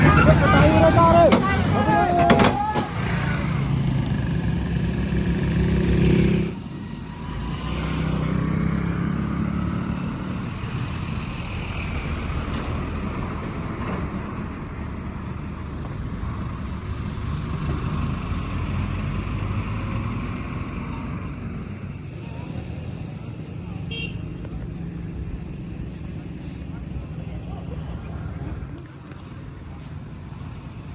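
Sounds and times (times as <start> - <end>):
vehicle engine humming: 0.0 - 30.9.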